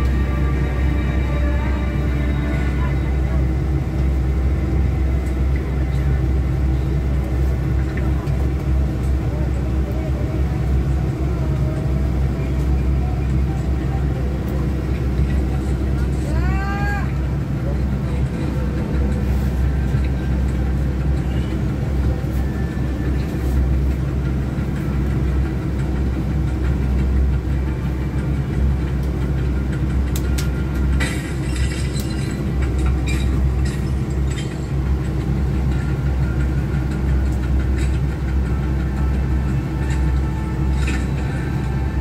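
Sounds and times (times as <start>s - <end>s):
bus engine rumbling: 0.0s - 42.0s.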